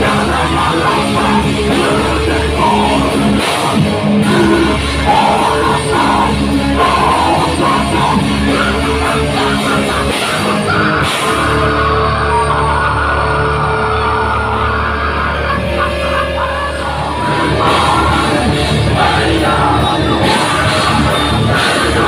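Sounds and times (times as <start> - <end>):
bass guitar: 0.0 - 22.0
distorted electric guitar: 0.0 - 22.0
drum kit: 0.0 - 22.0
person singing into a microphone: 0.0 - 22.0.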